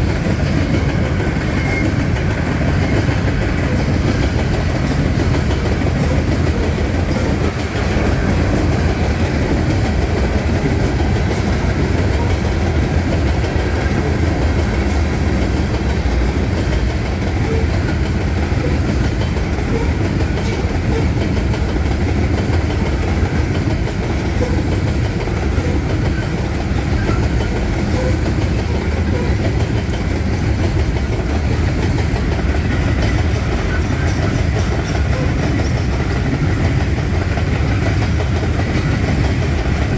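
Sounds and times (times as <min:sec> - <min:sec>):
freight train cars rumbling: 0:00.0 - 0:39.9
wheels clacking over rail joints: 0:00.0 - 0:39.9.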